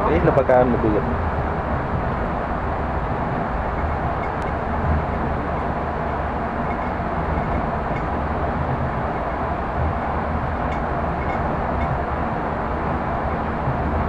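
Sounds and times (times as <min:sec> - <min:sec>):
train running rumble and hiss: 0:00.0 - 0:14.0.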